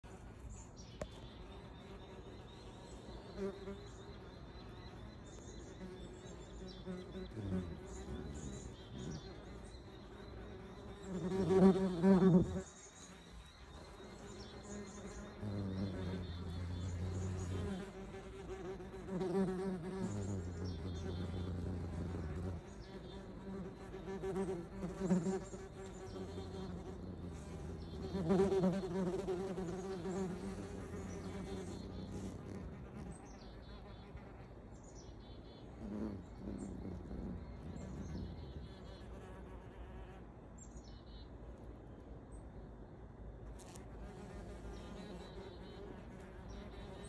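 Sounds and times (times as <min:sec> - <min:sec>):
wasp buzzing: 0:04.8 - 0:34.6, 0:35.7 - 0:40.2, 0:43.6 - 0:47.0.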